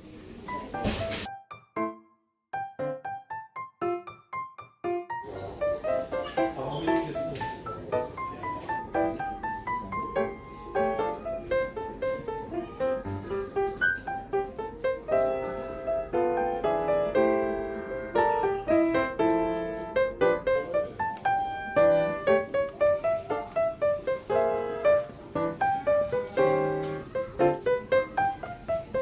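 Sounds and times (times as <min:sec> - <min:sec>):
gentle solo piano tune: 0:02.6 - 0:29.0.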